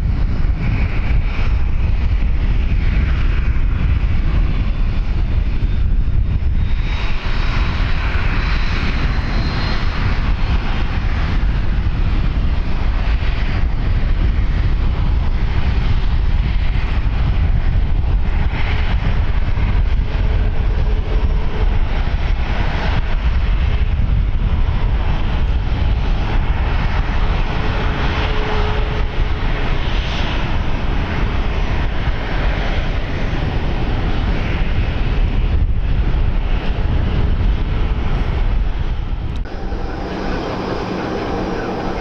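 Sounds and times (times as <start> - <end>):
jet engines running: 0.0 - 42.0
wind noise on microphone: 0.0 - 42.0.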